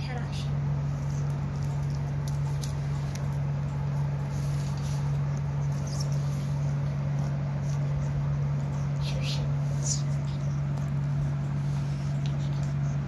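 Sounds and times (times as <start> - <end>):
steady low hum: 0.0 - 13.0
animals scuffling on tiled floor: 0.5 - 13.0.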